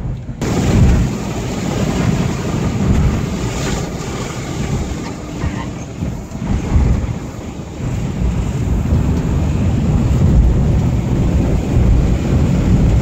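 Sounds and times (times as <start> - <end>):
low engine rumble: 0.0 - 13.0
road and wind noise: 0.0 - 13.0
wind buffeting microphone: 0.0 - 13.0.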